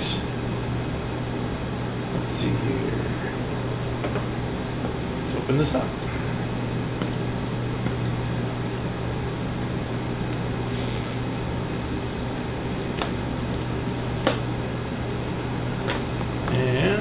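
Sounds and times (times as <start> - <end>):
steady low room hum: 0.0 - 17.0.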